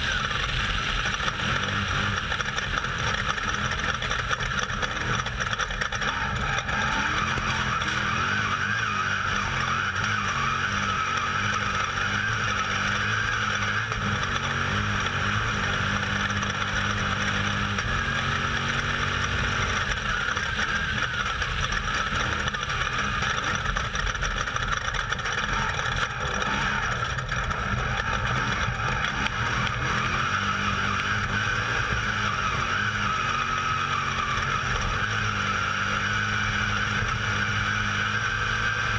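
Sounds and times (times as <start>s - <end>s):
race vehicle engine running hard: 0.0s - 38.9s.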